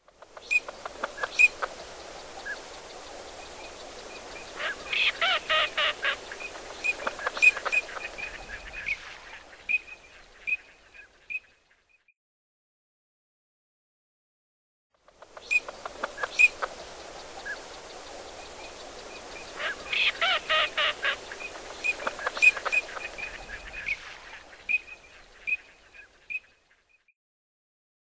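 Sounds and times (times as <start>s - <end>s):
steady outdoor hiss: 0.0s - 11.9s, 15.0s - 27.0s.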